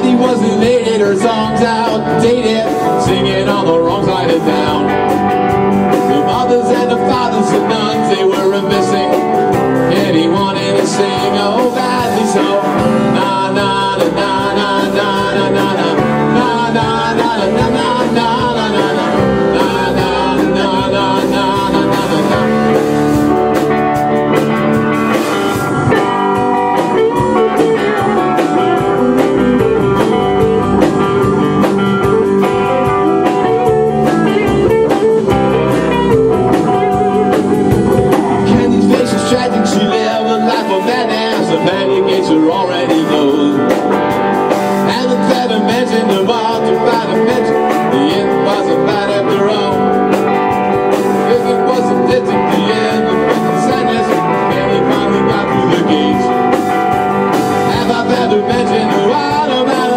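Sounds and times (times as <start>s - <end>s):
drum kit: 0.0s - 59.9s
electric bass: 0.0s - 59.9s
electric guitars: 0.0s - 59.9s.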